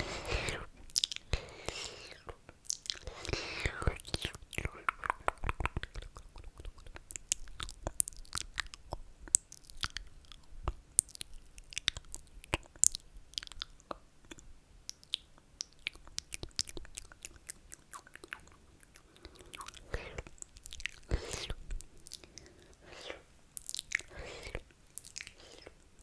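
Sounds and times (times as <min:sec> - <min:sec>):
wet lip and tongue clicks: 0:00.1 - 0:26.0.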